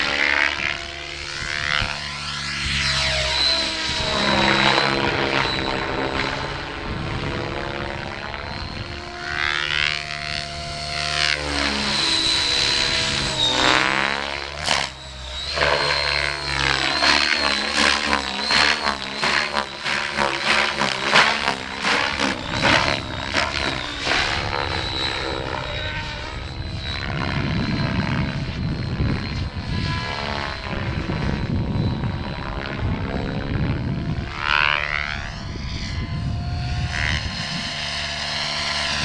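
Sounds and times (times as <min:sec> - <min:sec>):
model airplane motor and propeller: 0:00.0 - 0:39.0
steady high whine: 0:00.0 - 0:39.0.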